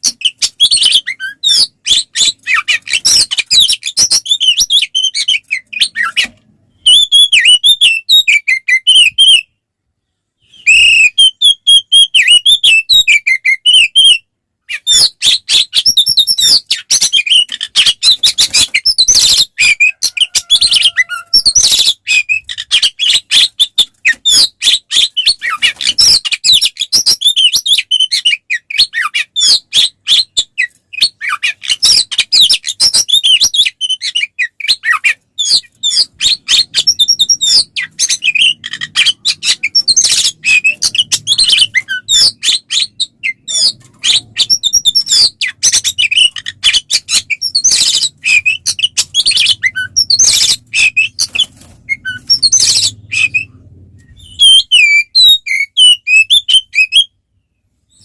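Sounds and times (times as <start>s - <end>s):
songbird singing whistles and chatter: 0.0s - 9.5s, 10.4s - 58.0s.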